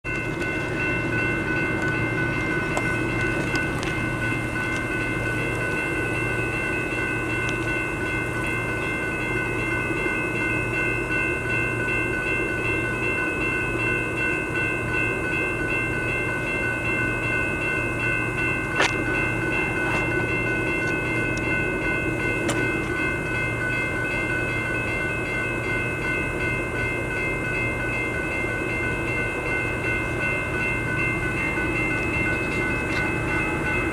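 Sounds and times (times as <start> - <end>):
crossing bell ringing: 0.0 - 33.9
freight train rumbling past: 0.0 - 33.9.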